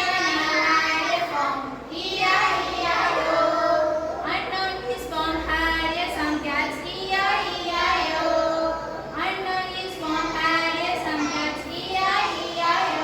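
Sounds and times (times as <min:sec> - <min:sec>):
children singing: 0:00.0 - 0:05.5, 0:06.7 - 0:13.0.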